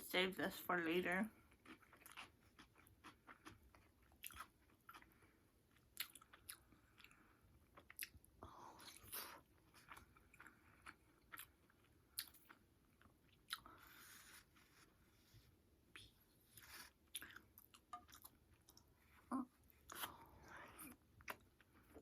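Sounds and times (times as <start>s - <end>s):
chewing and biting food: 1.4s - 14.9s, 15.9s - 22.0s.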